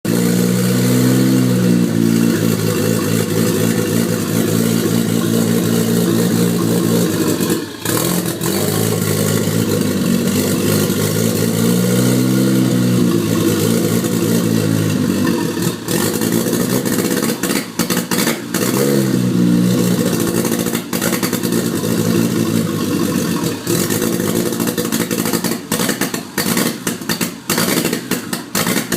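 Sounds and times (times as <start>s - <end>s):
car engine revving and misfiring: 0.1s - 28.9s.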